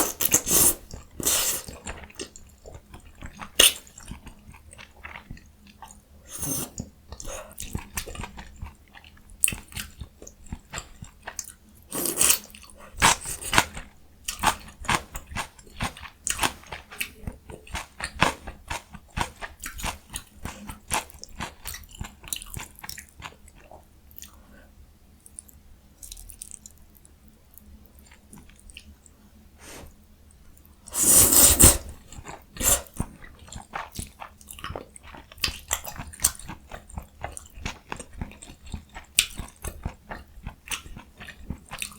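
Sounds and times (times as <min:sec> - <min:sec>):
person chewing and crunching: 0:00.0 - 0:24.4, 0:30.9 - 0:41.9.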